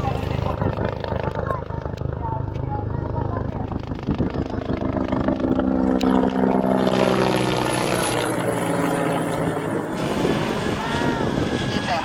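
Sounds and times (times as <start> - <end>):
helicopter rotor noise: 0.0 - 12.0
turbine high whine: 0.0 - 12.0.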